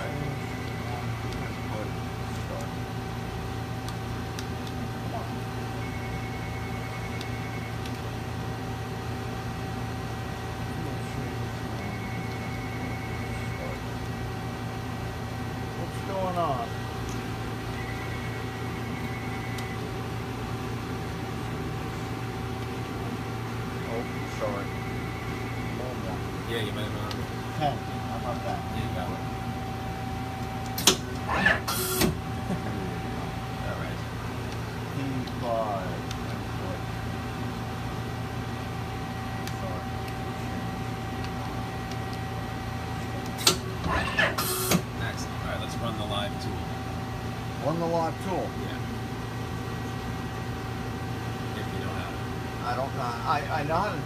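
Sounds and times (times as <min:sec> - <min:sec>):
mid-pitched machine whine: 0:00.0 - 0:54.0.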